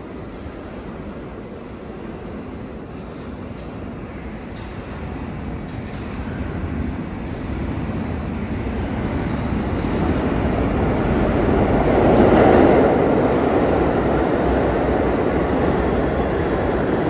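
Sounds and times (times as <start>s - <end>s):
subway train passing through station: 0.0s - 17.0s.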